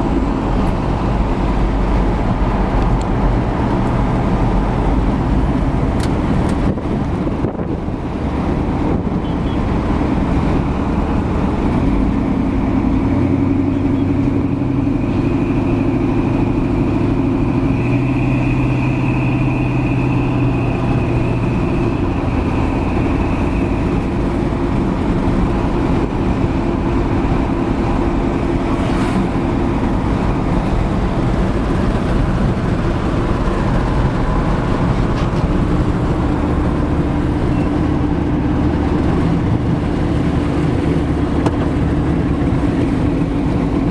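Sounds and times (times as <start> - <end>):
engine and exhaust drone: 0.0 - 43.9
road noise: 0.0 - 43.9.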